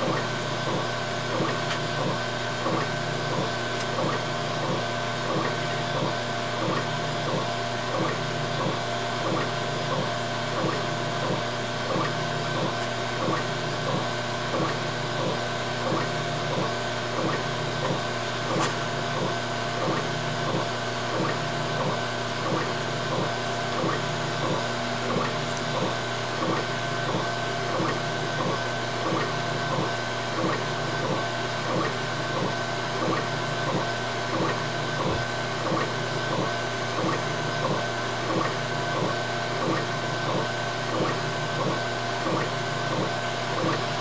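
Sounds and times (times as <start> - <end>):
steady machine hum: 0.0 - 44.0.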